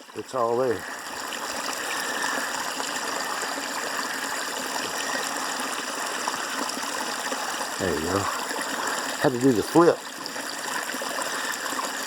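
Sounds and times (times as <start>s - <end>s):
stream flowing: 0.0s - 12.0s.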